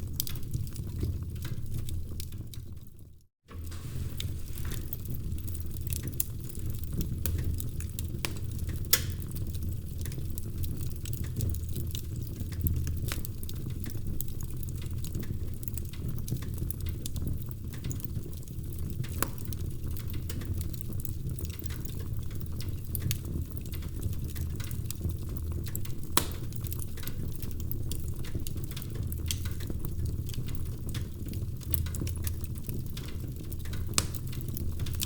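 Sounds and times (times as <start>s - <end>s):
fire popping: 0.0s - 35.0s
wood fire crackling: 0.0s - 35.0s.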